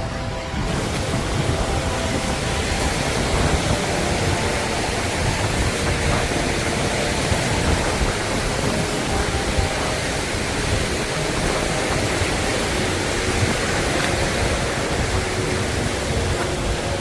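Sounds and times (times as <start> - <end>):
surf: 0.0 - 17.0
wind: 0.0 - 17.0
wind buffeting microphone: 0.0 - 17.0.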